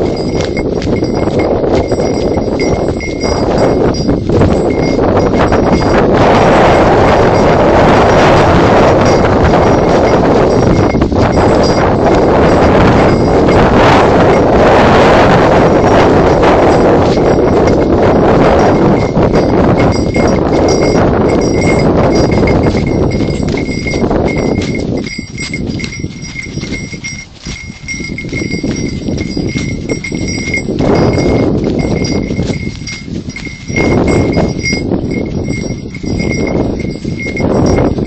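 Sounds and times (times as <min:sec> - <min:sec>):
hooves clip-clopping on dirt: 0:00.0 - 0:38.0
wind buffeting microphone: 0:00.0 - 0:38.0.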